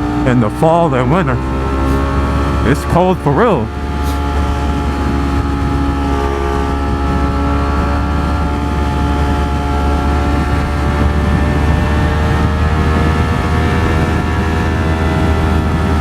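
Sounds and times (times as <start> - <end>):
motorcycle engine cruising: 0.0 - 16.0
road and wind noise: 0.0 - 16.0.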